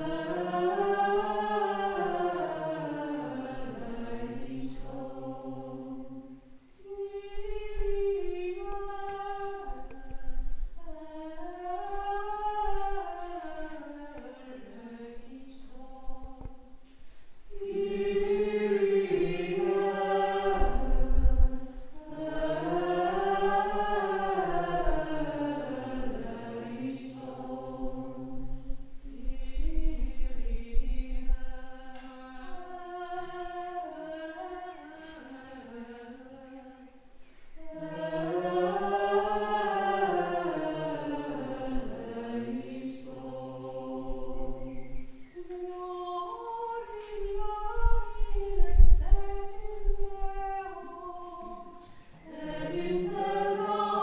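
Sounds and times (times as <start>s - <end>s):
choir singing: 0.0s - 16.8s, 17.5s - 54.0s.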